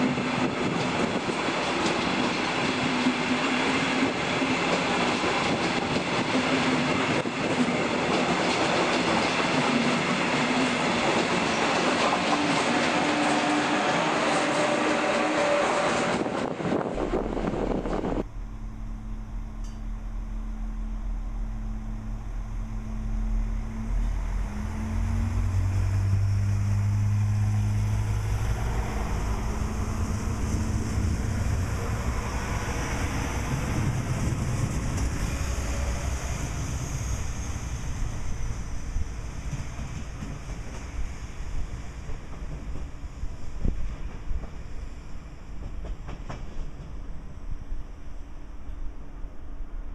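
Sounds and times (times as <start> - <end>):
diesel railcar engine running: 0.0 - 49.7
train rumbling along track: 0.0 - 49.9.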